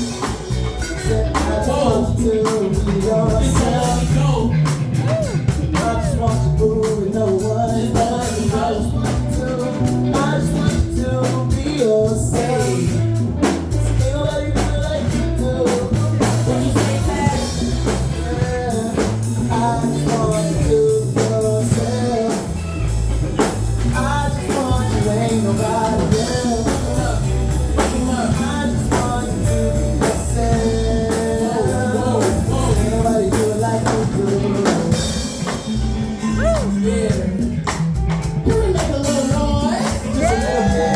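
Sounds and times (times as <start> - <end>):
bass: 0.0 - 40.9
drum kit: 0.0 - 40.9
guitar: 0.0 - 40.9
person singing: 0.0 - 40.9.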